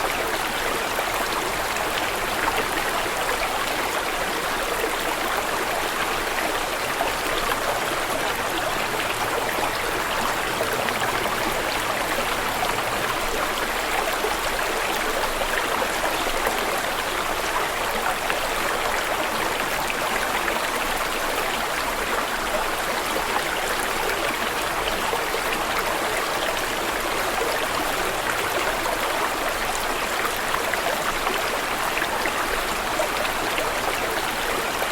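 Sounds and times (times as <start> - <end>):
water flowing over rocks: 0.0 - 34.9.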